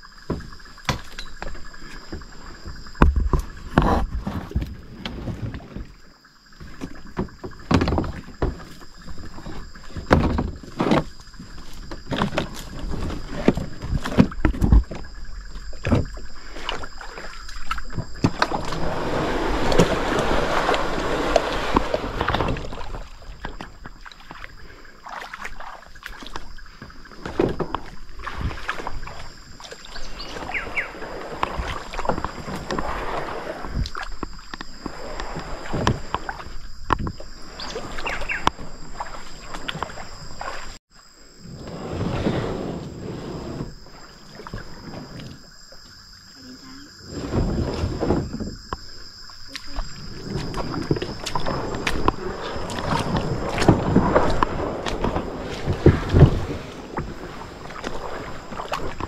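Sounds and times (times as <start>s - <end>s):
paddle splashes and knocks: 0.0s - 40.8s, 42.8s - 46.4s, 47.1s - 59.0s
rush of water: 4.4s - 40.8s, 46.4s - 59.0s.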